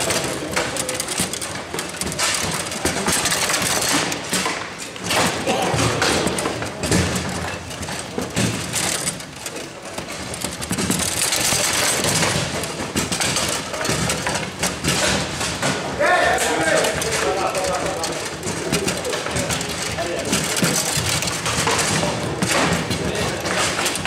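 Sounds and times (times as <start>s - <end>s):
rods knocking and sliding: 0.0s - 24.0s
table football ball clattering: 0.0s - 24.0s.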